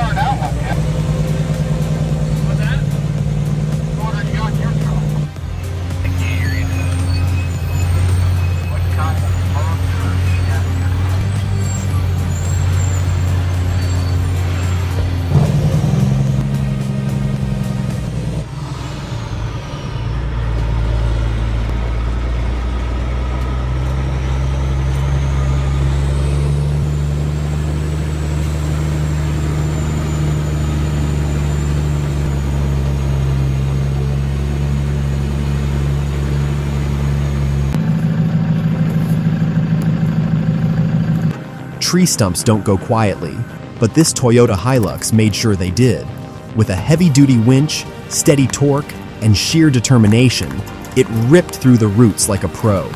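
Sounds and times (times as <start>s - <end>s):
heavy machine engine running: 0.0s - 52.9s.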